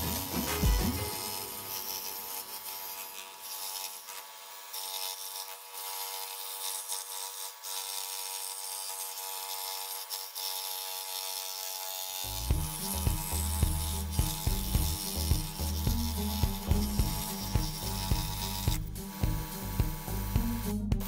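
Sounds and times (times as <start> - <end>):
scroll saw cutting plywood: 0.0 - 21.0.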